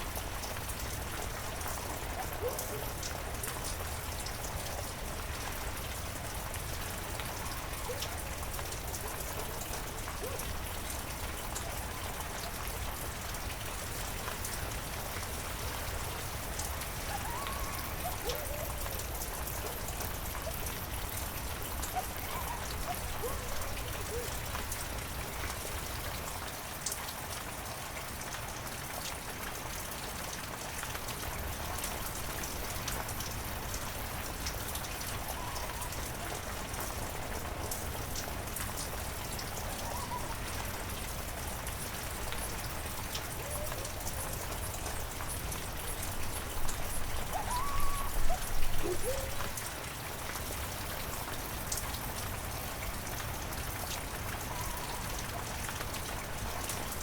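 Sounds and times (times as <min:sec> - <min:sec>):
raindrops ticking on surfaces: 0:00.0 - 0:57.0.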